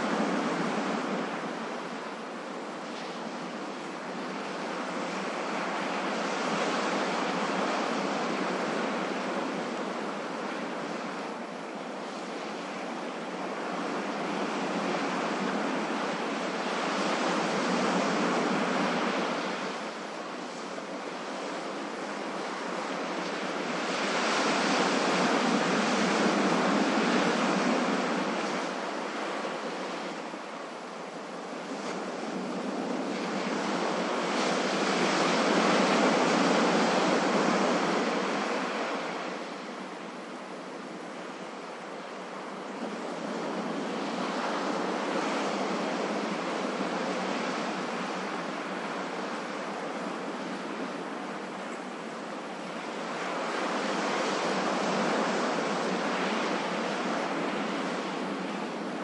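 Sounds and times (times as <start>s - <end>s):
ocean waves breaking ashore: 0.0s - 59.0s.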